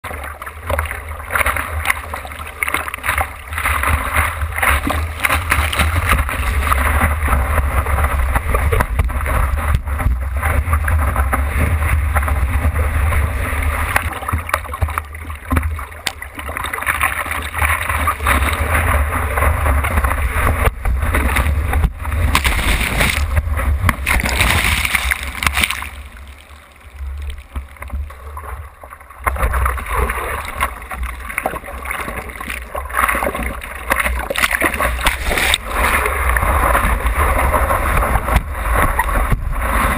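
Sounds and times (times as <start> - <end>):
rumble of water and wind: 0.0 - 39.9
seawater splashing against board: 0.1 - 28.6, 29.2 - 39.9.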